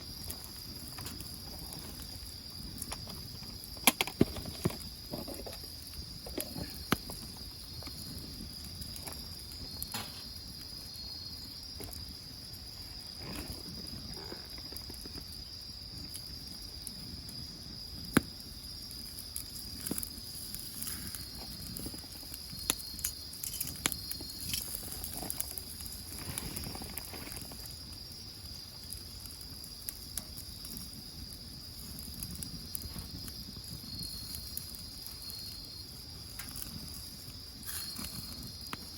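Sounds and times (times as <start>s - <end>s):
crickets chirping: 0.0s - 38.9s
firewood crackling: 0.0s - 38.9s.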